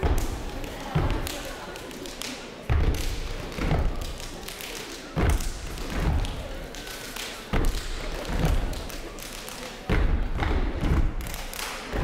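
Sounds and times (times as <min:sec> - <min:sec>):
hand claps and slaps: 0:00.0 - 0:12.0.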